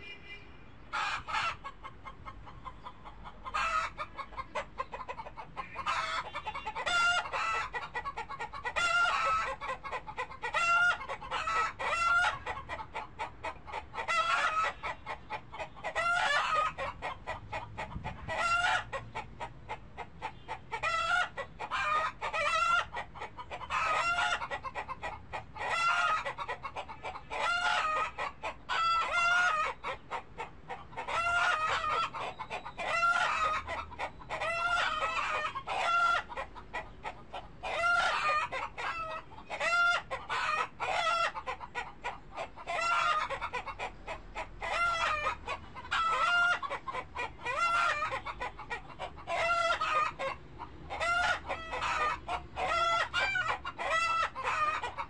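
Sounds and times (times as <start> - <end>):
chickens clucking: 0.8 - 55.0.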